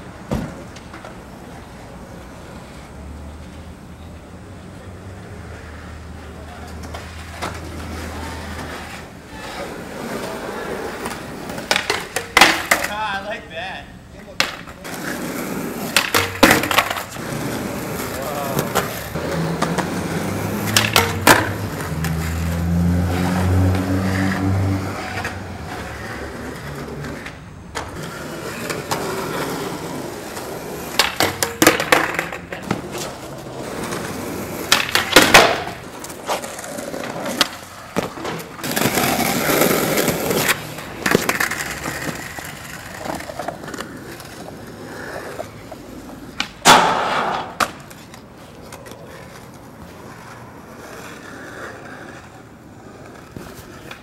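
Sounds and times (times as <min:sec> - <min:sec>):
skateboard clacking: 0:00.0 - 0:54.0
skateboard wheels rolling on concrete: 0:00.0 - 0:54.0
skateboard clattering: 0:06.2 - 0:13.5, 0:14.2 - 0:54.0.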